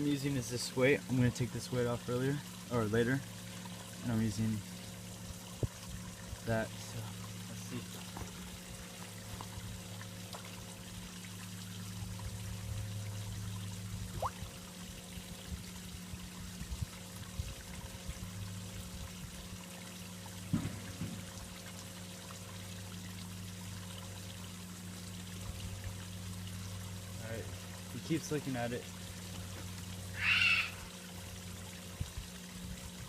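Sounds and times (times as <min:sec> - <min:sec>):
water trickling and splashing: 0:00.0 - 0:33.0.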